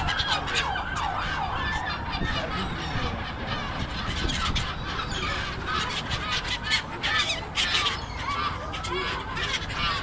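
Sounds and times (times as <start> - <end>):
gulls calling: 0.0 - 10.0.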